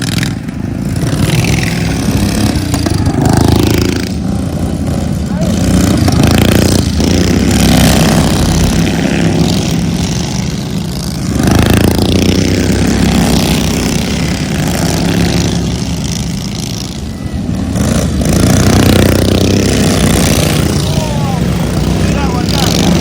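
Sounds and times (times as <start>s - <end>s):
vehicles passing by: 0.0s - 23.0s.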